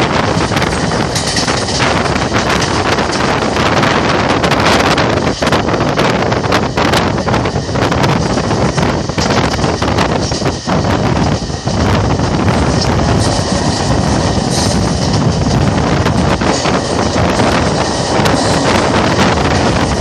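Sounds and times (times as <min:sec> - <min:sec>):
train wheels rumbling and clattering: 0:00.0 - 0:20.0
wind rushing over microphone: 0:00.0 - 0:20.0.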